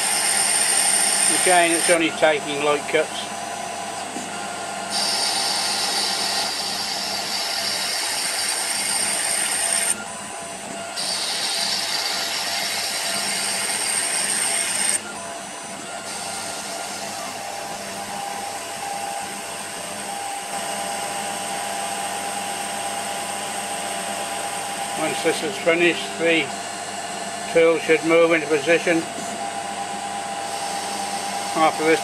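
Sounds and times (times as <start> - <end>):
lathe mechanical whine: 0.0 - 32.0.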